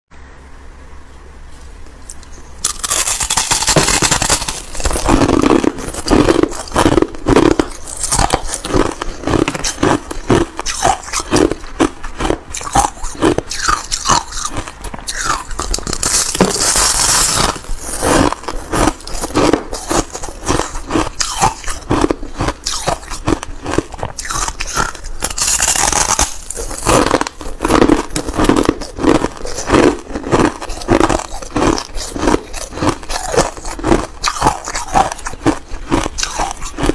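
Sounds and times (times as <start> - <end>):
ice being chewed with crunches: 2.1 - 36.9
loud crackling: 2.6 - 36.9.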